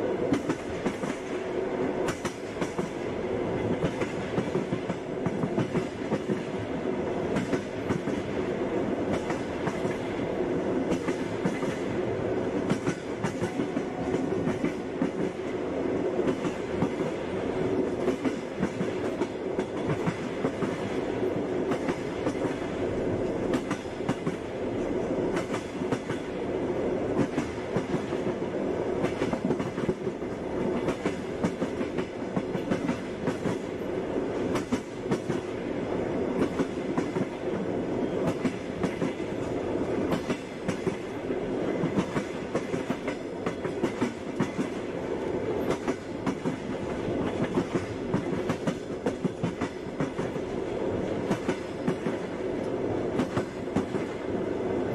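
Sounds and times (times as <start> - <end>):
railway carriage rumble: 0.0 - 54.9.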